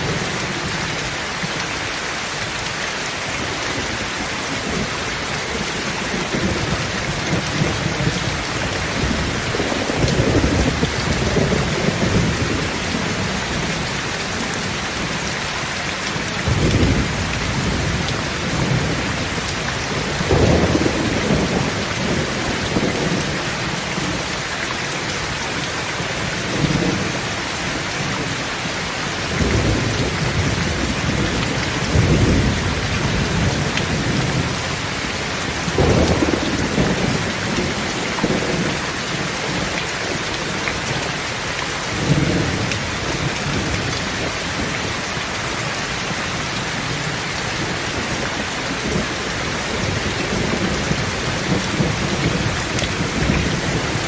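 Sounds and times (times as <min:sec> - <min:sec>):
heavy rain: 0:00.0 - 0:54.0
thunder rumbling: 0:03.4 - 0:15.3, 0:16.0 - 0:24.3, 0:29.2 - 0:41.2, 0:41.9 - 0:45.4, 0:46.0 - 0:54.0.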